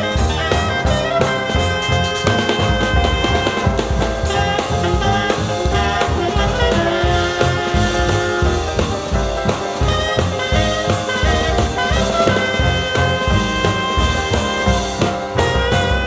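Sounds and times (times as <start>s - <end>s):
swing jazz music with horns: 0.0s - 16.0s.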